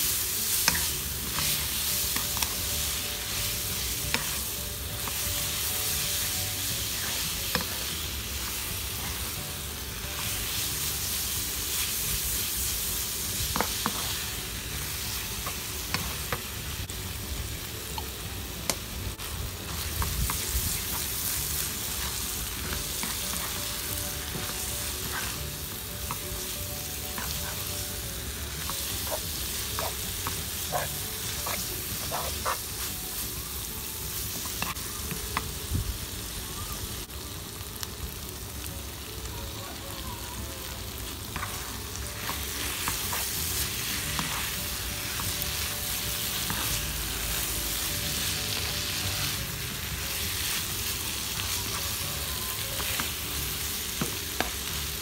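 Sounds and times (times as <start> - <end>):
noodles sizzling in frying pan: 0.0 - 55.0.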